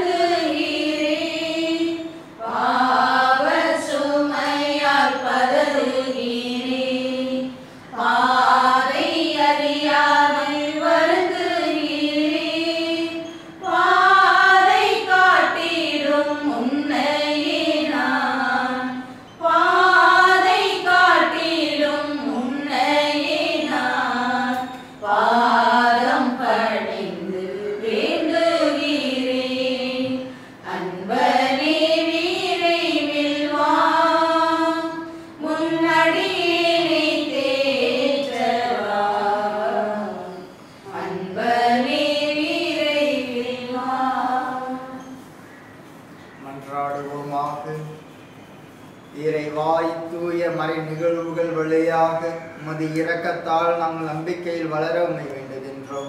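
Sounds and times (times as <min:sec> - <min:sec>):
voices singing a hymn: 0:00.0 - 0:47.9.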